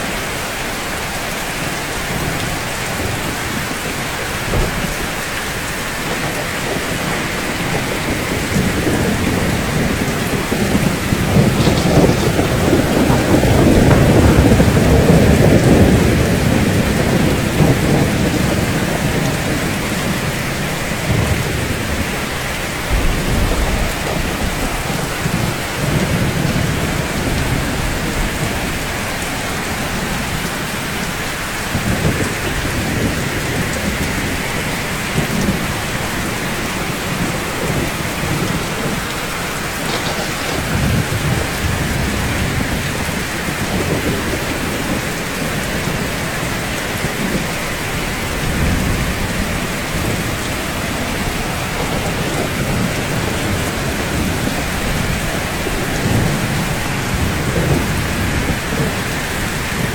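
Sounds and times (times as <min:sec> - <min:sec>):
steady rain: 0:00.0 - 0:59.9
thunder rumbling: 0:01.4 - 0:59.9.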